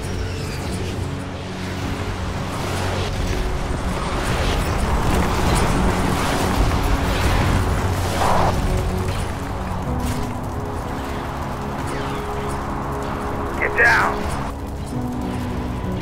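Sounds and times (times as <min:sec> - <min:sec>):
orchestral film score: 0:00.0 - 0:16.0
rumble of explosions: 0:00.0 - 0:16.0.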